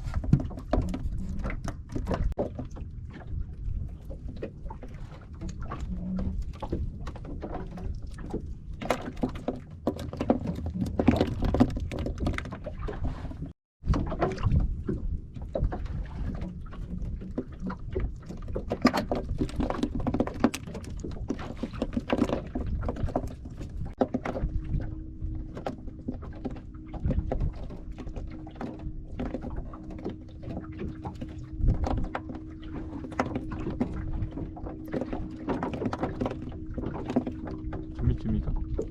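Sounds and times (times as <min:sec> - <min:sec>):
knocks and thuds on boat: 0:00.0 - 0:38.9
water movement: 0:00.0 - 0:38.9.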